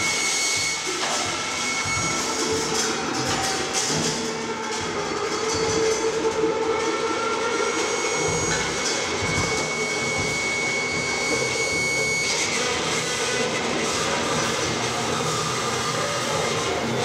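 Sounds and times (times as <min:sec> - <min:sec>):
droning noise music: 0:00.0 - 0:17.0.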